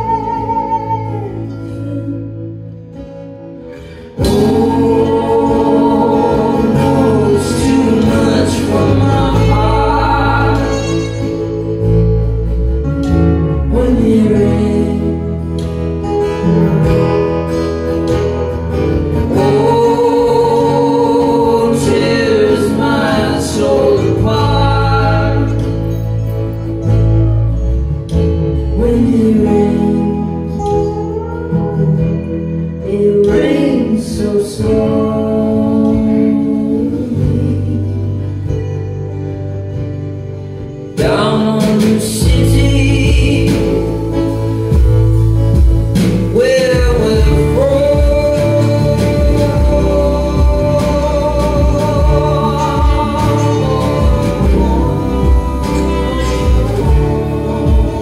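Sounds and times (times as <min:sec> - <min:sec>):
person singing: 0:00.0 - 0:27.0, 0:28.6 - 0:39.7, 0:40.5 - 0:58.0
acoustic guitars: 0:00.0 - 0:58.0
electric bass: 0:00.0 - 0:58.0
drums: 0:03.7 - 0:35.2, 0:40.6 - 0:58.0.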